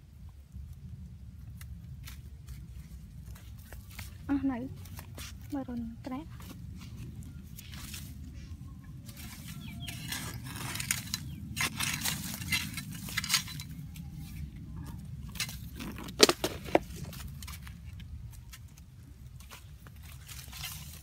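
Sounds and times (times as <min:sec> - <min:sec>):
hoe scraping dry soil: 0:02.0 - 0:21.0.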